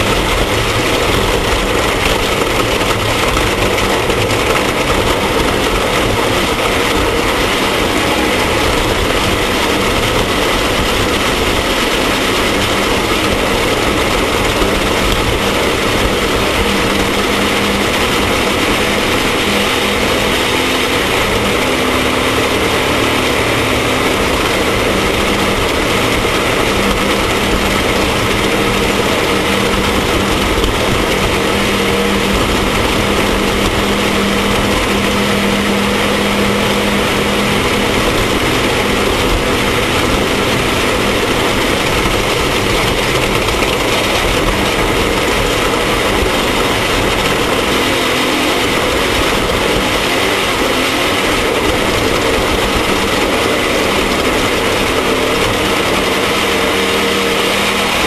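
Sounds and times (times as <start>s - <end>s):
loud engine drone: 0.0s - 58.0s
mechanical and road noise: 0.0s - 58.0s.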